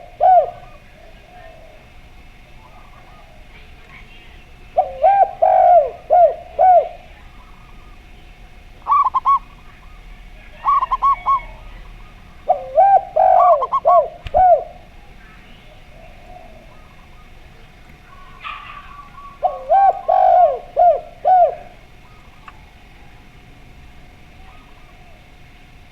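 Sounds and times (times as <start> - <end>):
doves cooing: 0.0 - 25.9.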